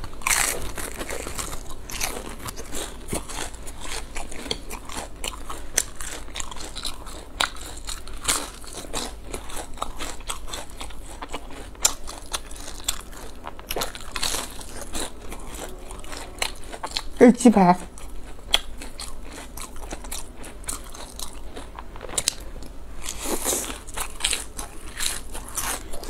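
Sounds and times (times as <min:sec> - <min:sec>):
crunchy biting and chewing: 0:00.0 - 0:17.2, 0:17.9 - 0:26.0.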